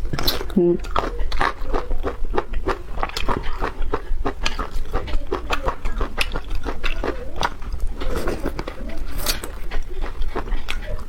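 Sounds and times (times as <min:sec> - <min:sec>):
wet chewing and crunching: 0:00.0 - 0:11.0.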